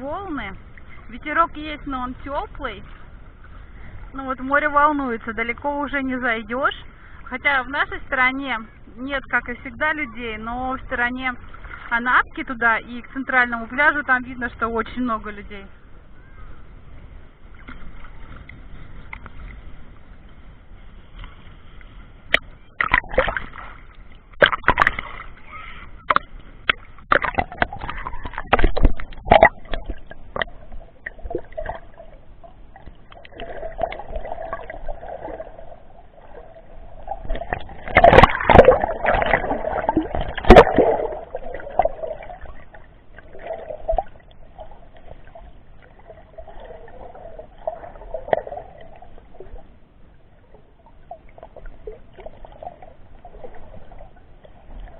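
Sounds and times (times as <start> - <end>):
muffled water sloshing and splashing: 0.0 - 54.9.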